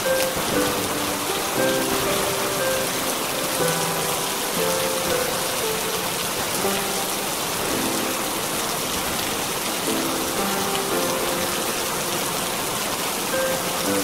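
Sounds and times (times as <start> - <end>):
slow melody of held notes: 0.0 - 14.0
steady rain: 0.0 - 14.0.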